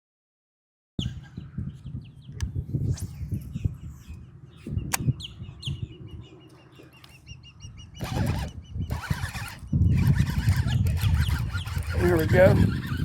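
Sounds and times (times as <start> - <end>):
small birds chirping: 1.0 - 13.0.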